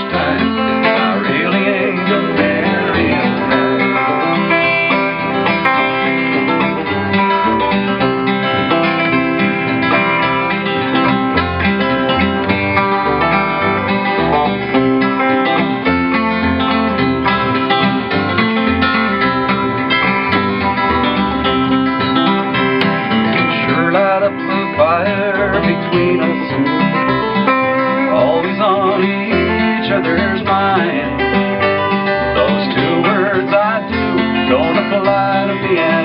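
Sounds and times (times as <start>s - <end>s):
acoustic guitar and plucked strings: 0.0s - 36.0s
bass line: 0.0s - 36.0s.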